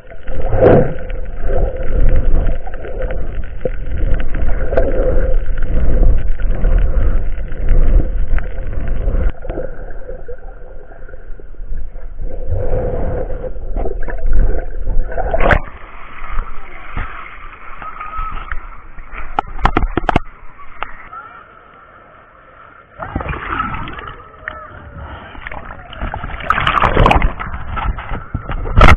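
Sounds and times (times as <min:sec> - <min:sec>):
muffled underwater rumble and gurgling: 0:00.0 - 0:28.9.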